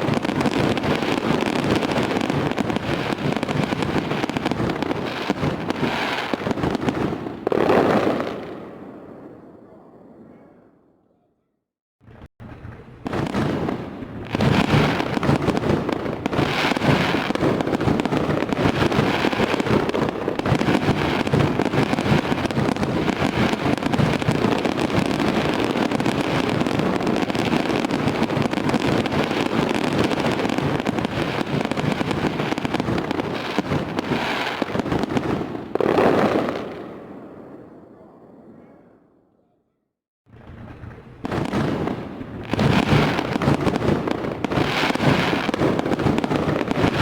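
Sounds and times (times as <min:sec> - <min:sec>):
fireworks crackling: 0:00.0 - 0:09.1, 0:12.0 - 0:37.3, 0:40.3 - 0:47.0.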